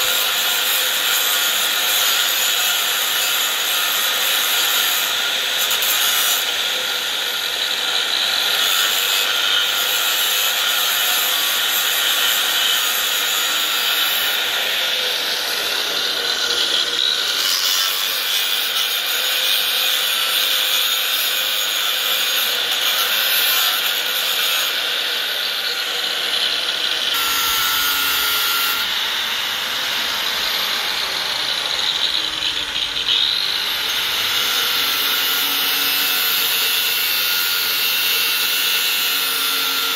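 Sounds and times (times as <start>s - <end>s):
angle grinder cutting: 0.0s - 39.9s.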